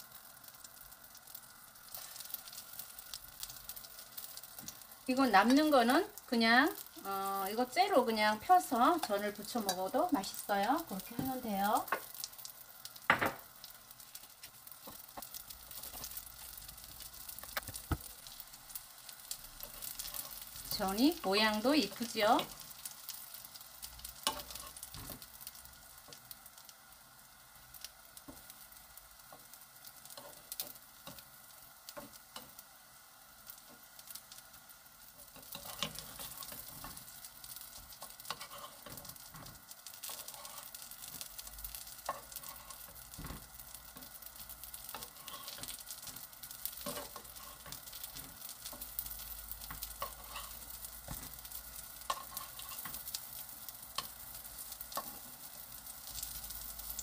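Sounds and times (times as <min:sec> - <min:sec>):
food sizzling in oil: 0:00.0 - 0:57.0.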